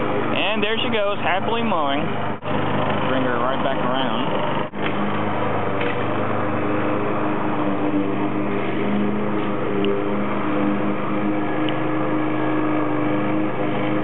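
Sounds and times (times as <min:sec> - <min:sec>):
lawnmower running: 0:00.0 - 0:14.0.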